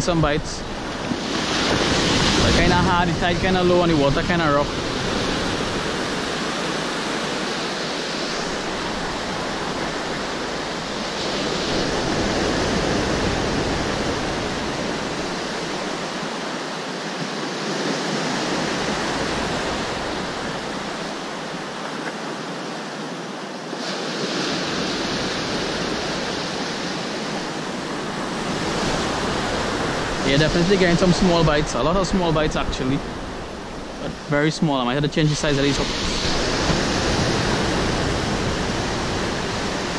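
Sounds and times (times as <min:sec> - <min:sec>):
sea surf breaking on rocks: 0:00.0 - 0:39.9.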